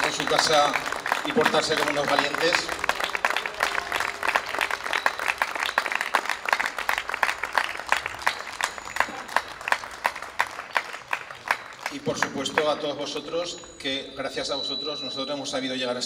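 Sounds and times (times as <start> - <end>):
crowd applauding: 0.0 - 13.7.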